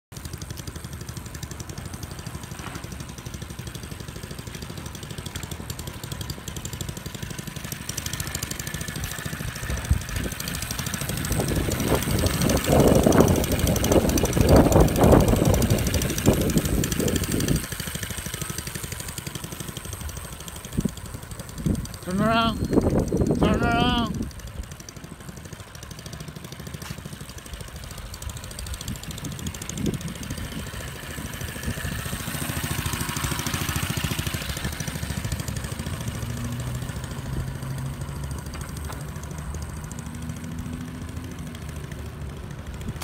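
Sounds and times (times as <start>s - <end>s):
minibike engine running: 0.1s - 43.0s.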